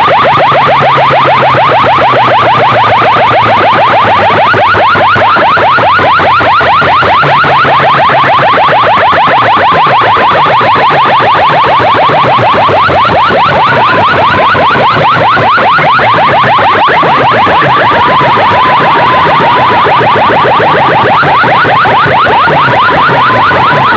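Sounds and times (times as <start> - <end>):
siren-like electronic whoops: 0.0 - 23.9.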